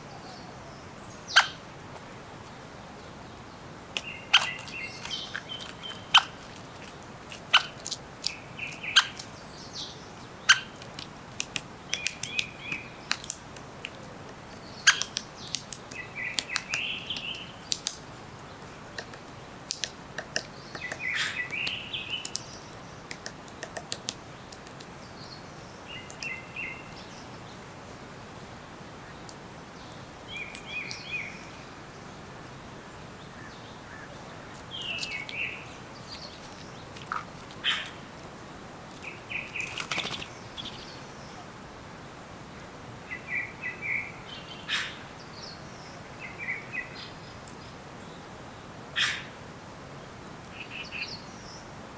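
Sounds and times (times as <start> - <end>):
birds chirping: 0.0 - 11.1, 11.7 - 49.4, 50.0 - 51.7
faint background hiss: 0.0 - 51.9.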